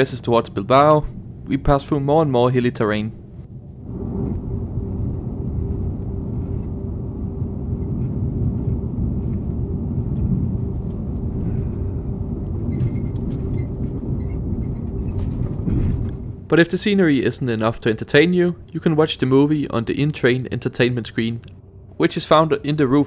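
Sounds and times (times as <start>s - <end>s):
train rumbling inside carriage: 0.0s - 20.8s.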